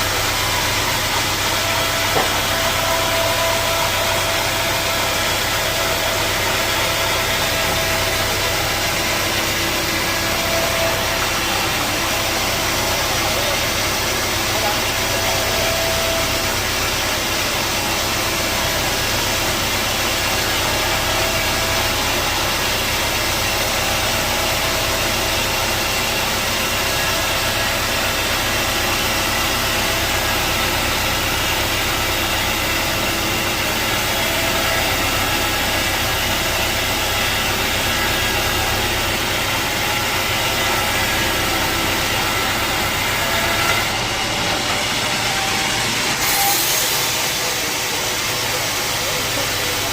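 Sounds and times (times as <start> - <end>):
sawmill machinery drone: 0.0 - 49.9.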